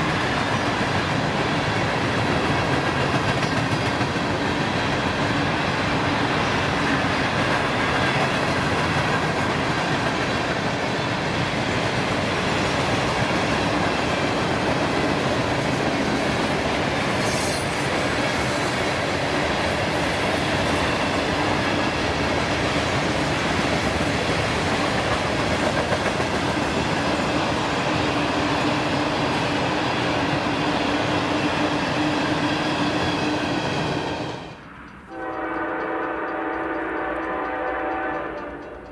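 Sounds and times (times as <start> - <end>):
railroad cars rolling past: 0.0 - 38.9.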